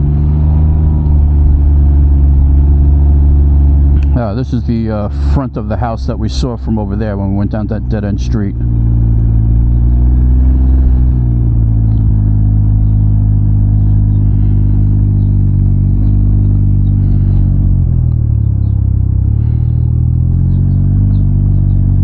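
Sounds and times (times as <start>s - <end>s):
three-wheeler engine running: 0.0s - 22.0s.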